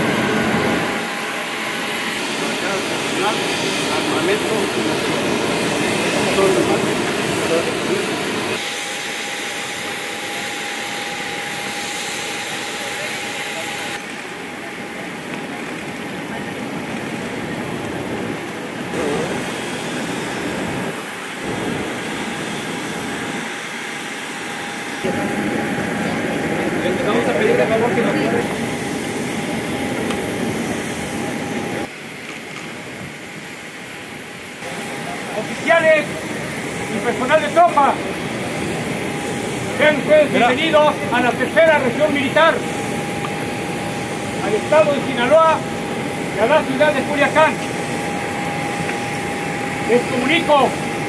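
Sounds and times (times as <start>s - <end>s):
jet engine rushing hiss: 0.0s - 51.0s
thin steady whine: 0.0s - 51.0s.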